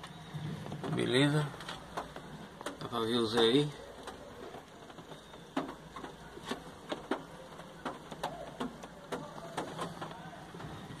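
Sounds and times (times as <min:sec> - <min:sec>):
raindrops tapping: 0:00.0 - 0:11.0.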